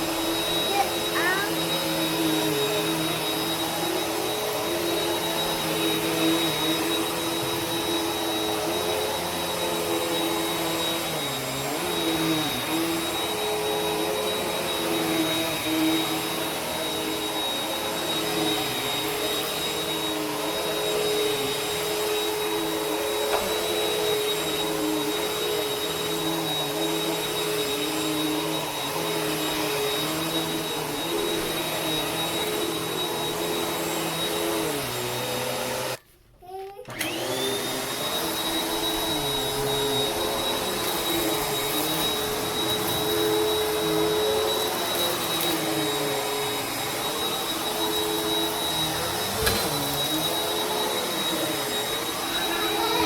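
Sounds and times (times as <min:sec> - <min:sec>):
vacuum cleaner running: 0:00.0 - 0:36.0, 0:36.8 - 0:53.0.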